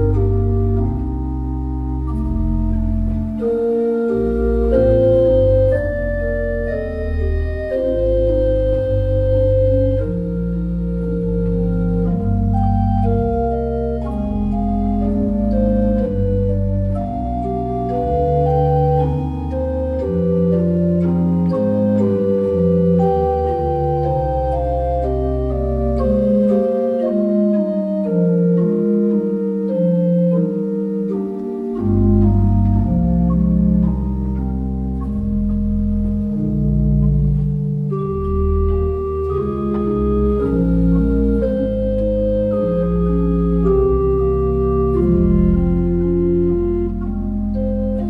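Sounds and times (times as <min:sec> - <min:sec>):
church organ chords: 0:00.0 - 0:48.0
deep organ pedal bass: 0:00.0 - 0:48.0.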